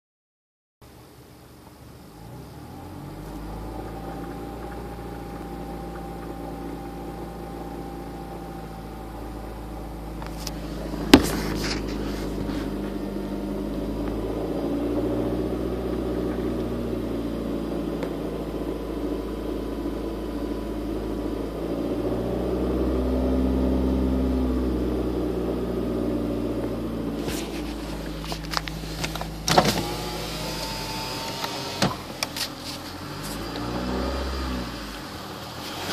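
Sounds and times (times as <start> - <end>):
car engine revving: 1.9 - 35.9.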